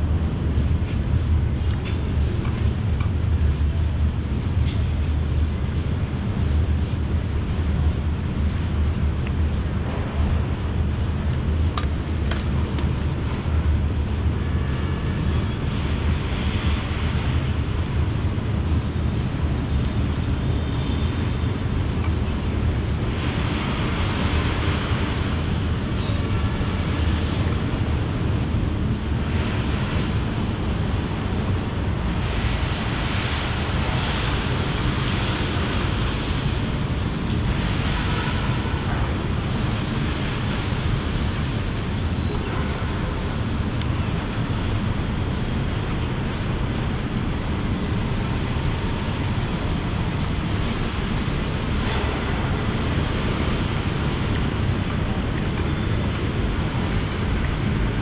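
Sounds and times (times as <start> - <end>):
low rumble of city traffic: 0.0 - 58.0.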